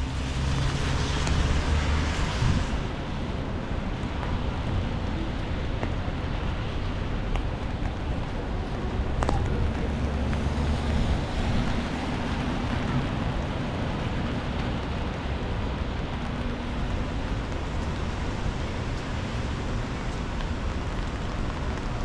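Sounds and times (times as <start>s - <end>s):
traffic hiss on wet road: 0.0s - 22.0s
wind rumbling on microphone: 0.0s - 22.0s.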